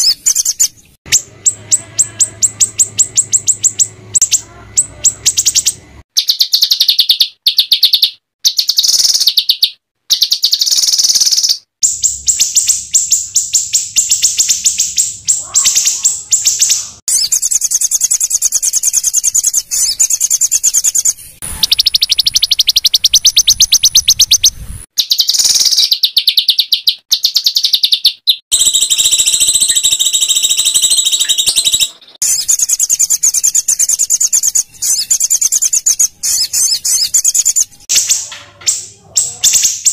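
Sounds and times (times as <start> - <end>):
songbird harsh rapid notes: 0.0 - 39.9.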